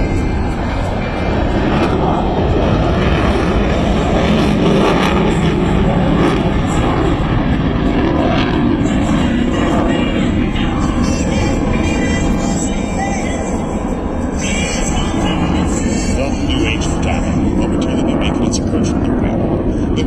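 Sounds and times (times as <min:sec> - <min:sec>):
military jet aircraft flying past: 0:00.0 - 0:20.0.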